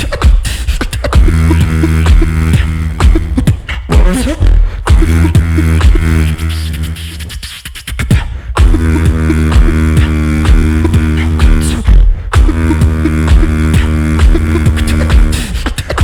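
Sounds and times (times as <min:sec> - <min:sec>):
beatboxing kick and snare: 0:00.0 - 0:16.0
buzzing vocal bass: 0:00.0 - 0:16.0.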